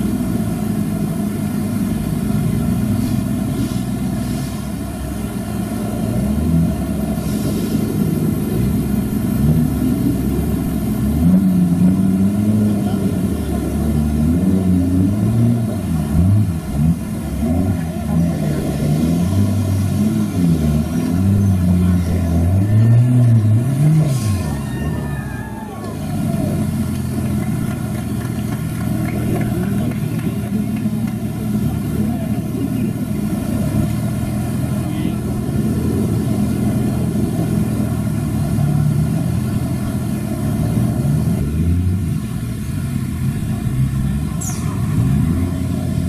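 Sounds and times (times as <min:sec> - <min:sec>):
off-road vehicle engine revving: 0:00.0 - 0:46.0.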